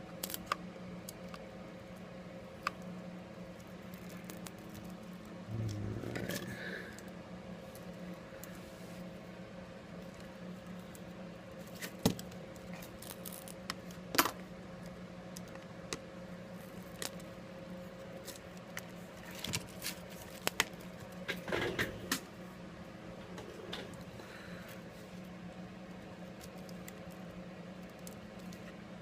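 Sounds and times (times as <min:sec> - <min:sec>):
steady low hum: 0:00.7 - 0:19.3, 0:20.2 - 0:29.0.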